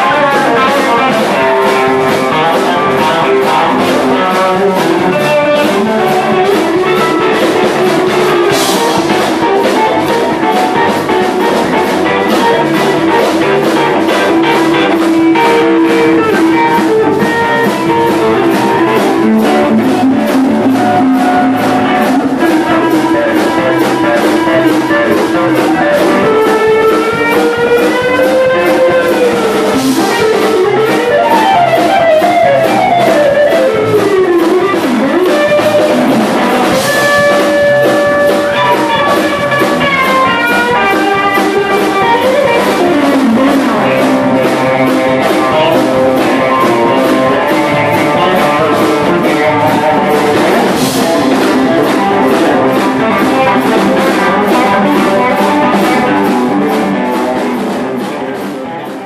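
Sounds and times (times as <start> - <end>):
electric guitar solo: 0.0 - 59.0
steady drum beat: 0.0 - 59.0.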